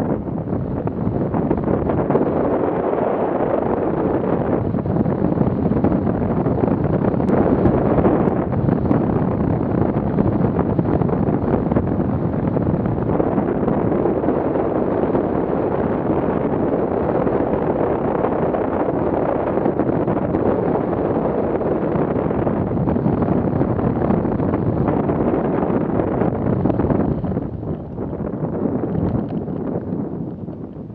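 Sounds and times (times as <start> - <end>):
wind rushing over microphone: 0.0 - 30.9.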